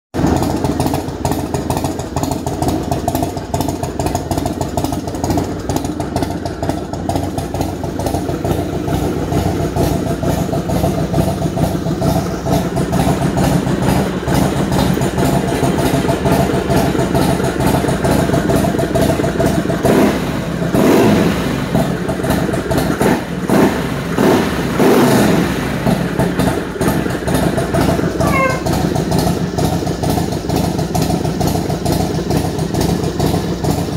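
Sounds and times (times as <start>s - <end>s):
motorcycle idling with throttle blips: 0.2s - 33.9s.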